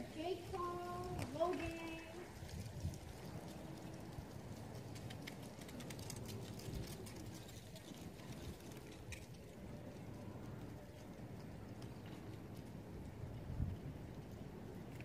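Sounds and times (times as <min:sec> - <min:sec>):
wind buffeting microphone: 0:00.0 - 0:15.0
faint ticks and clicks: 0:00.9 - 0:15.0.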